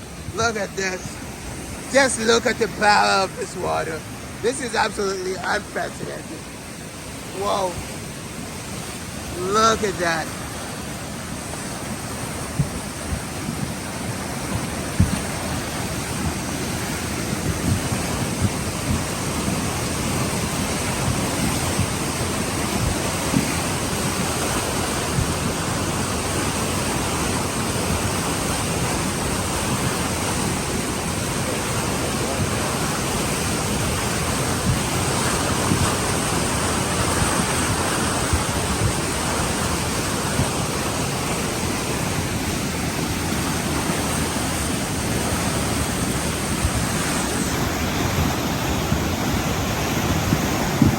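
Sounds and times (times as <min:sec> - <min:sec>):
floodwater rushing: 0:00.0 - 0:50.9.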